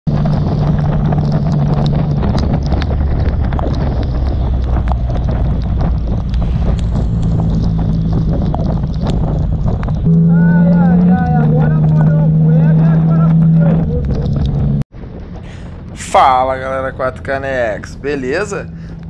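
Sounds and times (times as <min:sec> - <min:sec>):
motorcycle engine cruising: 0:00.1 - 0:15.9
wind rush: 0:00.1 - 0:19.0.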